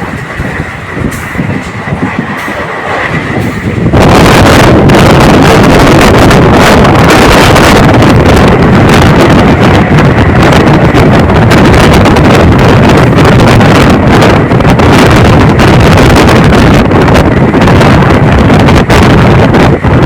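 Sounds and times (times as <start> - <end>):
moving train running noise: 0.0 - 20.0
wind buffeting microphone: 0.0 - 20.0.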